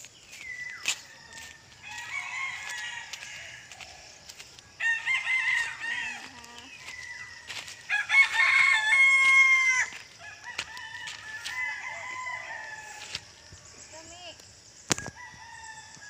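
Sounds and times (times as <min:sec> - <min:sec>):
rooster crowing: 0:01.0 - 0:13.4, 0:15.1 - 0:16.0.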